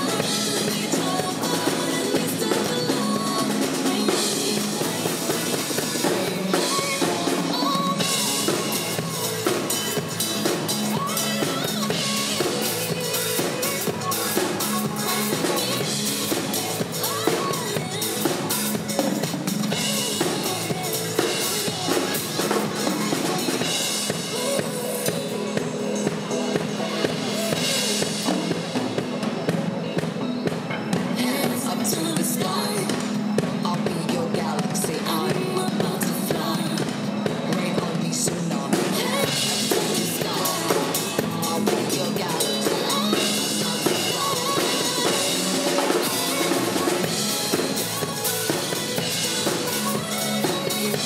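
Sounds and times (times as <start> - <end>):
drum kit played with sticks: 0.0 - 51.0
pop backing track: 0.0 - 51.0.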